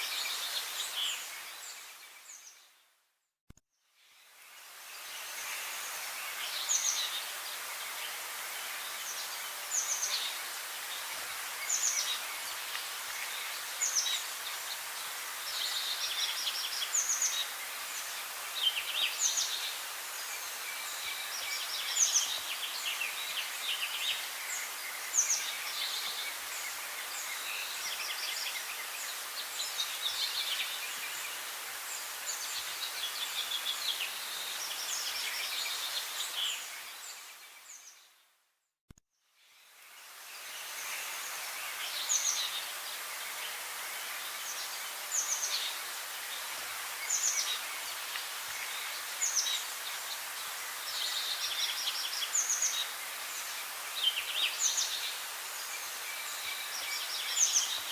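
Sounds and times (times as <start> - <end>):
steady background hiss: 0.0 - 2.7, 4.0 - 38.0, 39.4 - 57.9
songbirds singing: 4.0 - 38.2, 39.4 - 57.9.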